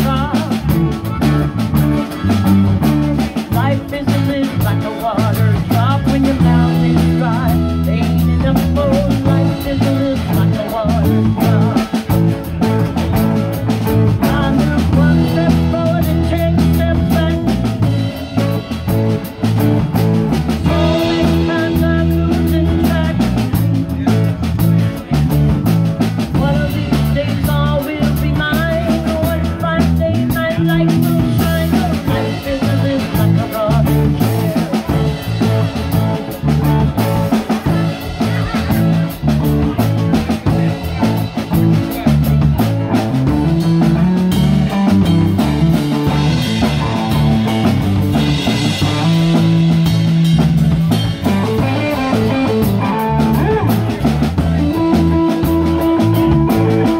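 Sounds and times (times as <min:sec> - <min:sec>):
live band electric guitars and drums: 0:00.0 - 0:56.9.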